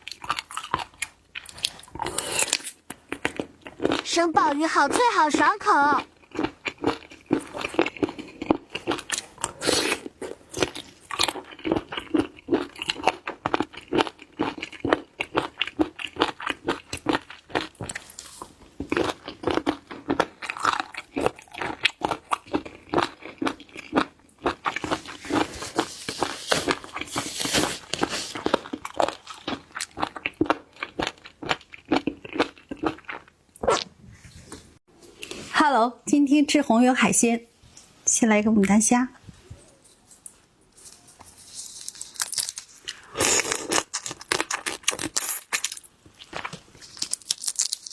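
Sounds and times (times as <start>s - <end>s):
crunchy chewing: 0.0s - 4.1s, 6.0s - 33.9s, 39.9s - 47.9s.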